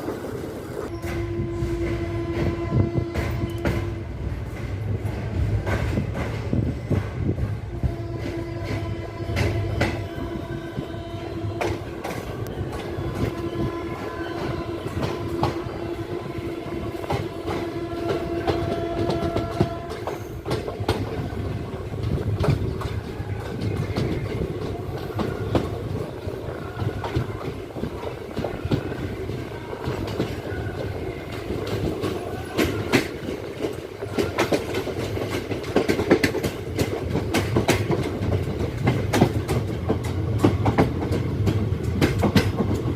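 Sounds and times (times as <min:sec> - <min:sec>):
low rumble of train: 0:00.0 - 0:42.9
train wheels clattering on rails: 0:00.0 - 0:42.9.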